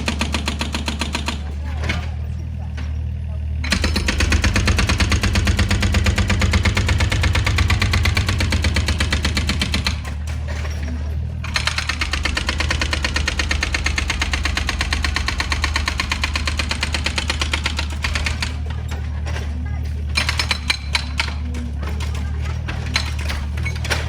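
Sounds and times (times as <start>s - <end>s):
diesel engine hum: 0.0s - 24.0s
hydraulic breaker hammering: 0.0s - 24.0s.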